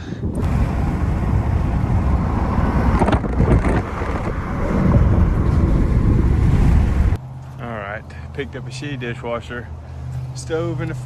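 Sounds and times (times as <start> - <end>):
vehicle engine and tyre rumble: 0.1 - 11.0.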